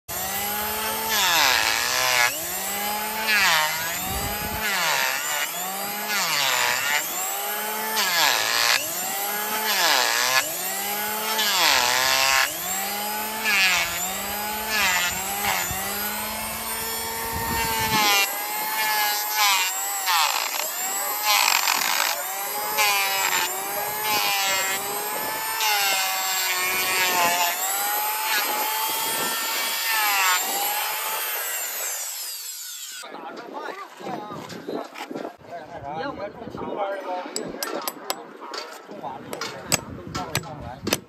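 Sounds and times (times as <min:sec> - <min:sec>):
electric planer shaving hoof: 0:00.1 - 0:33.0.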